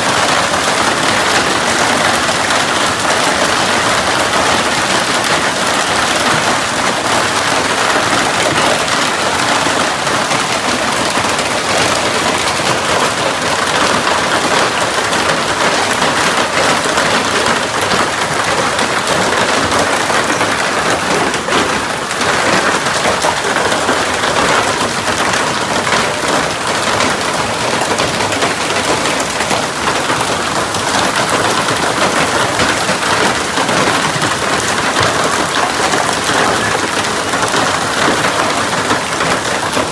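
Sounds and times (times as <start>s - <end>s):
heavy hail clattering: 0.0s - 39.9s.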